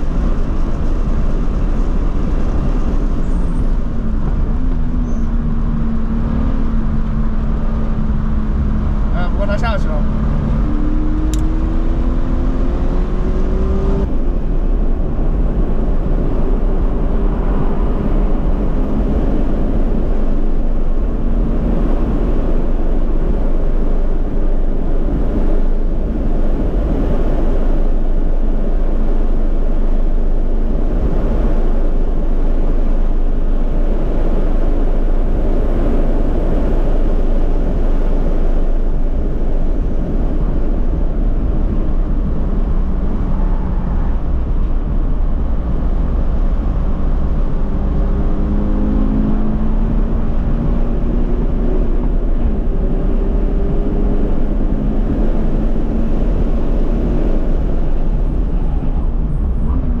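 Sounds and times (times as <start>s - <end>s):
car engine pulling hard: 0.0s - 60.0s
wind and road noise: 0.0s - 60.0s.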